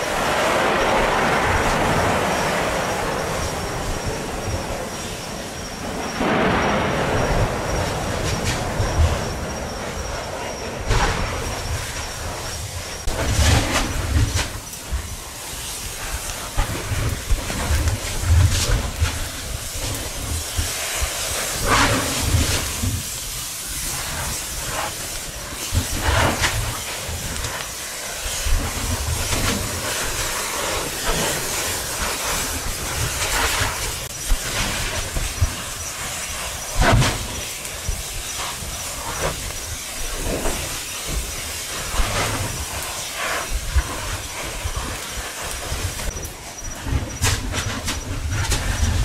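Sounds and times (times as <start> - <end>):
lava spattering with hissing rush: 0.0 - 49.0.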